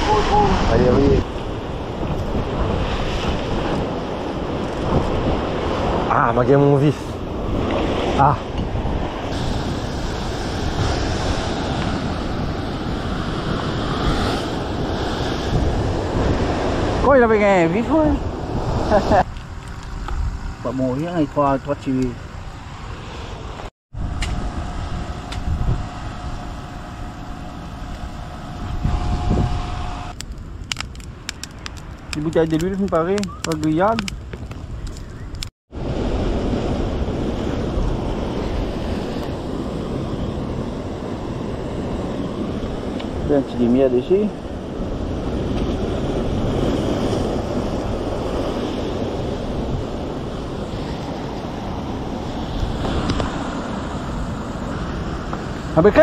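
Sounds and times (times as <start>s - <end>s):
sea surf washing ashore: 0.0s - 19.3s, 20.0s - 30.2s, 35.7s - 56.0s
wind buffeting microphone: 0.0s - 56.0s.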